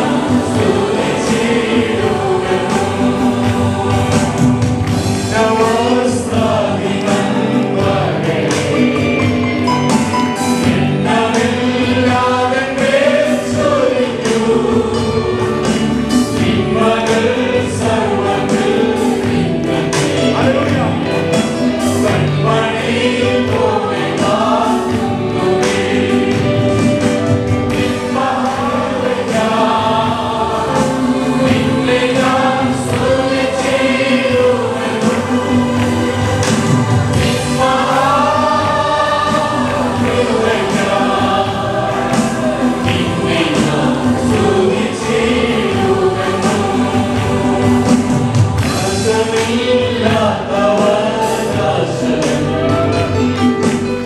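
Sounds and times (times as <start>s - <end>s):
choir singing gospel song: 0.0s - 54.0s
instrumental accompaniment: 0.0s - 54.0s.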